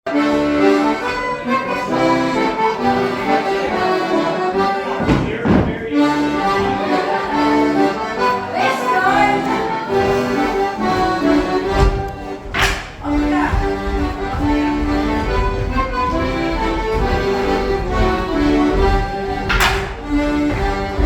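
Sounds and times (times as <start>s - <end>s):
accordion playing a dance tune: 0.1s - 21.0s.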